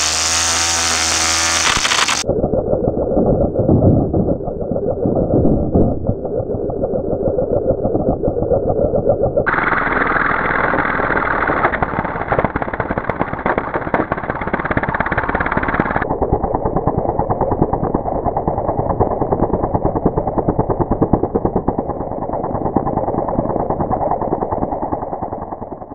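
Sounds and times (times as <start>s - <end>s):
slowed string trimmer drone: 0.0s - 2.4s, 6.1s - 25.9s.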